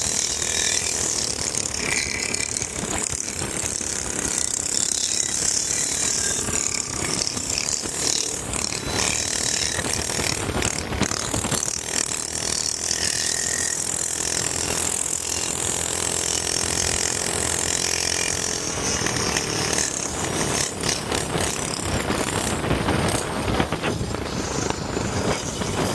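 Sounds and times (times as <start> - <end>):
small engine rattling: 0.0 - 25.9.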